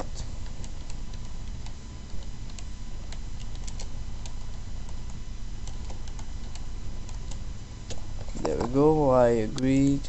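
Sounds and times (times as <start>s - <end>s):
keyboard typing clicks: 0.4s - 8.7s.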